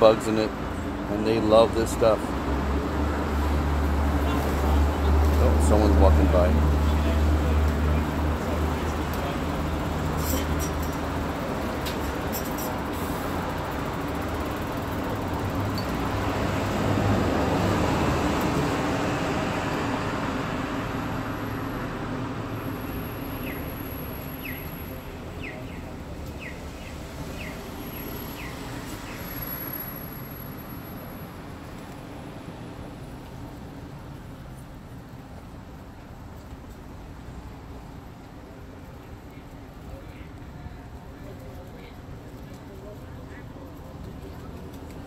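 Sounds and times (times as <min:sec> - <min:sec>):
road traffic rushing: 0:00.0 - 0:45.0.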